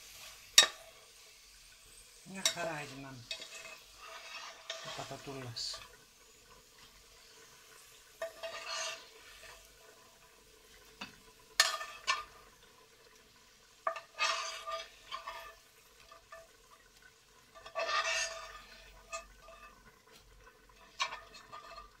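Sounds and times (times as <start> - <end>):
metal spatula scraping a pan: 0.0 - 1.2, 2.3 - 12.6, 13.8 - 16.9, 17.5 - 22.0
oil sizzling: 0.0 - 22.0.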